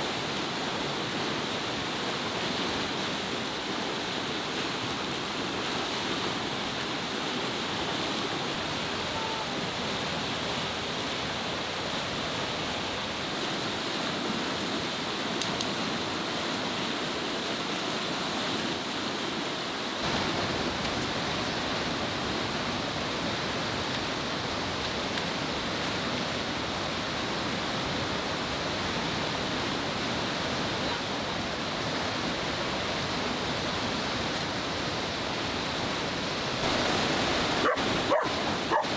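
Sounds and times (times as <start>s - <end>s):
river rushing: 0.0s - 38.9s.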